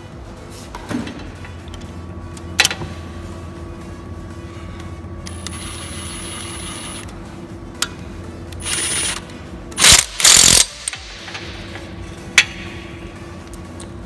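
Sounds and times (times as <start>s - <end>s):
thin high whine: 1.4s - 14.0s.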